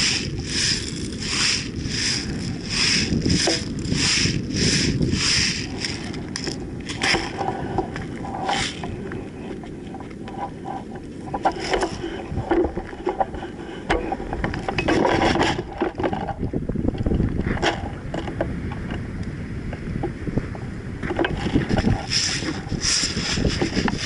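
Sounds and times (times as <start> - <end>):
rustling and scraping: 0.0 - 18.5, 21.0 - 24.0
wind noise on microphone: 0.0 - 24.0.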